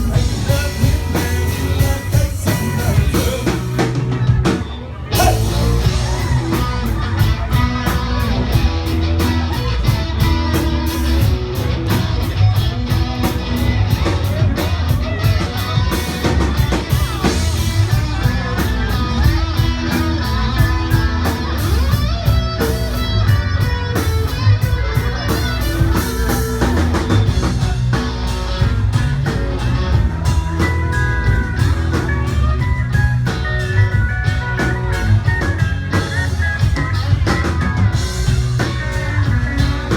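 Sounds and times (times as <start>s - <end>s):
drum kit beat: 0.0s - 39.9s
lead guitar: 0.0s - 39.9s.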